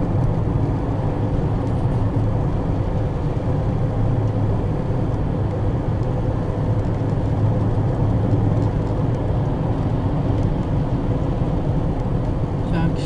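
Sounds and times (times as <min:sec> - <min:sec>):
car engine and tyre hum: 0:00.0 - 0:13.0.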